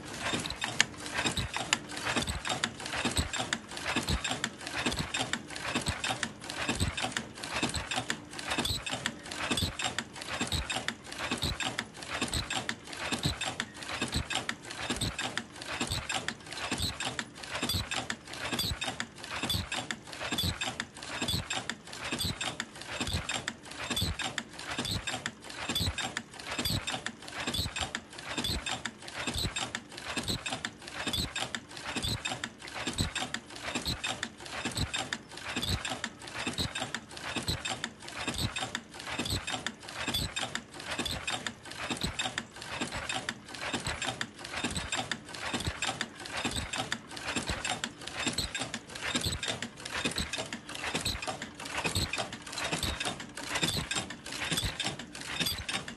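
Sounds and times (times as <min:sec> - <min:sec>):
machine clacking rhythmically: 0:00.0 - 0:55.9.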